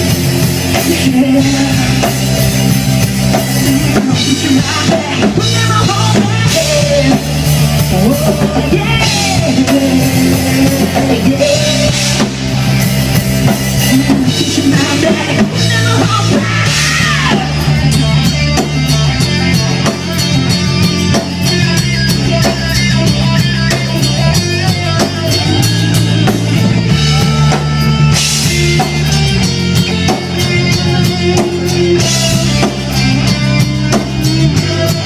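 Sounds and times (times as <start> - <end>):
bass guitar: 0.0 - 35.0
distorted electric guitar: 0.0 - 35.0
drum kit: 0.0 - 35.0.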